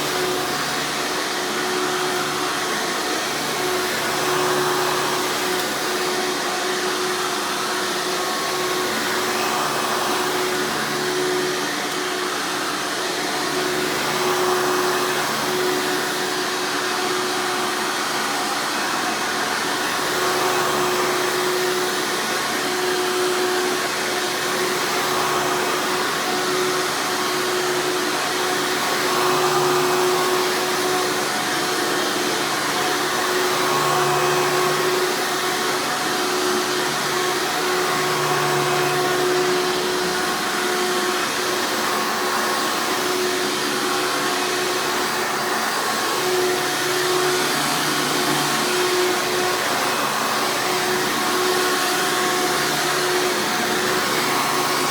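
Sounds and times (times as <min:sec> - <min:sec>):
upright vacuum running: 0:00.0 - 0:54.9.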